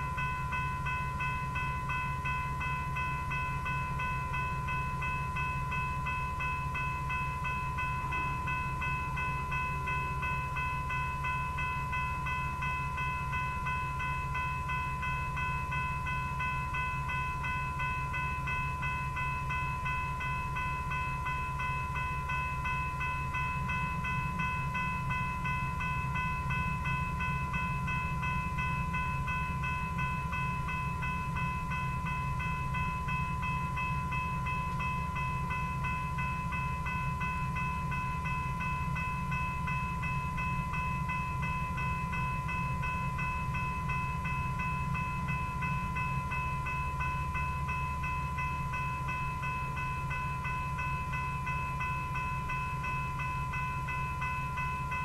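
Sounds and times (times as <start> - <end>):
railroad crossing bell ringing: 0.0 - 55.0.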